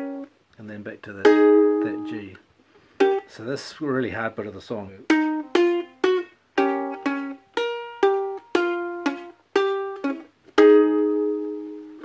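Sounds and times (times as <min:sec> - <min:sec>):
ukulele strumming chords: 0:00.0 - 0:03.6, 0:05.0 - 0:12.0.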